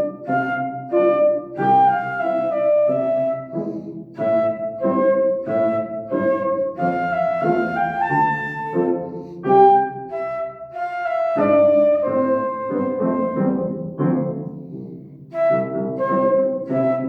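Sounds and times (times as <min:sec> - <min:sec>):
flute playing a melody: 0:00.0 - 0:14.4, 0:15.3 - 0:17.0
piano accompaniment: 0:00.0 - 0:17.0.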